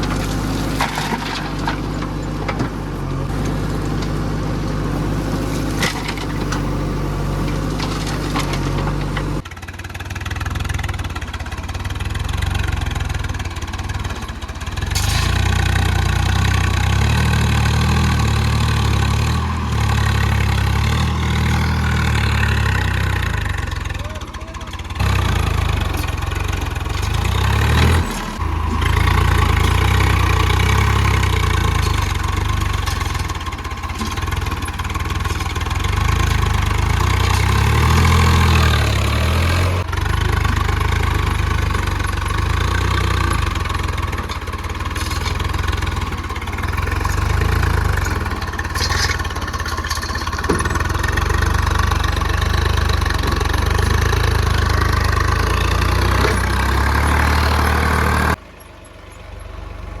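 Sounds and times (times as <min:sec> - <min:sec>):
backhoe diesel engine under load: 0:00.0 - 1:00.0.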